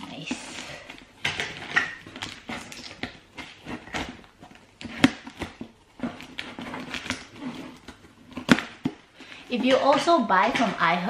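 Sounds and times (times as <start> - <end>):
packing material rustling: 0.0 - 11.0.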